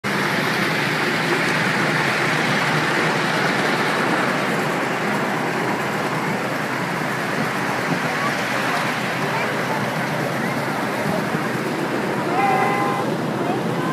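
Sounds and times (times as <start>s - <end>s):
train rolling along track: 0.0s - 13.9s.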